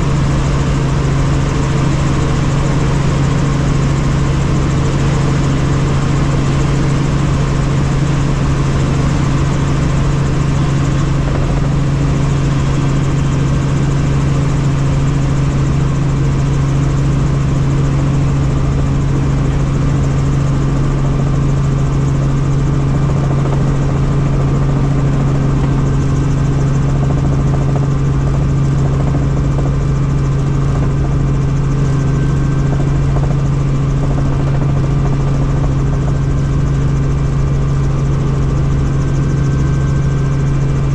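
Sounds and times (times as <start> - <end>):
helicopter cabin drone: 0.0 - 40.9.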